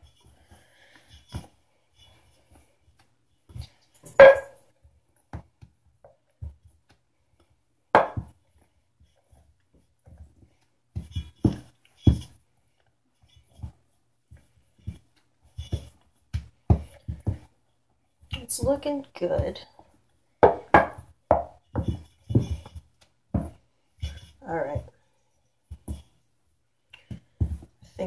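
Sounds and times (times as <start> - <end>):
hands working dough in a pot: 0.0 - 28.0.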